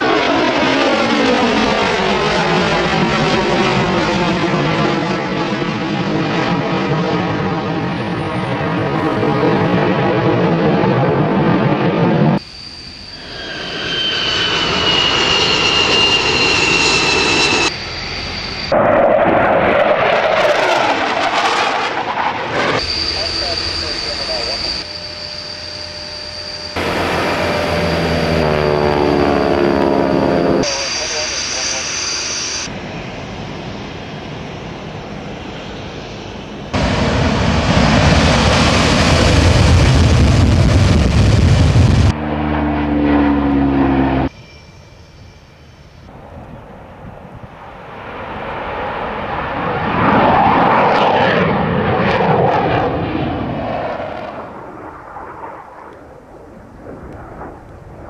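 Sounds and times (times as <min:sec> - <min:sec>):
jet turbine whine: 0:00.0 - 0:58.0
jets roaring past: 0:00.0 - 0:58.0.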